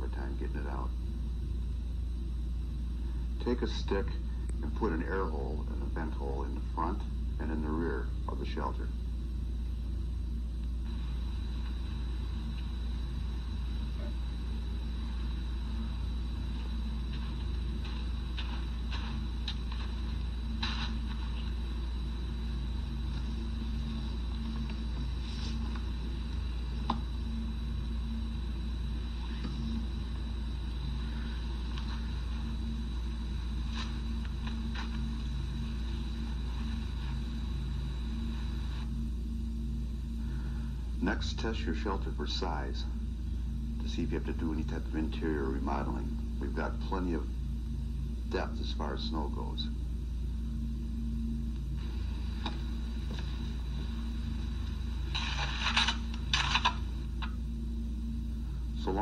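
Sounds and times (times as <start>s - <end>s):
electrical hum: 0.0s - 59.0s
high tape whine: 0.0s - 59.0s.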